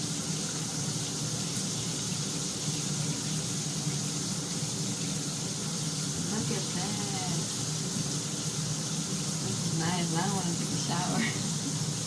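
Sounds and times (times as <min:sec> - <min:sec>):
water spraying from shower head: 0:00.0 - 0:12.0.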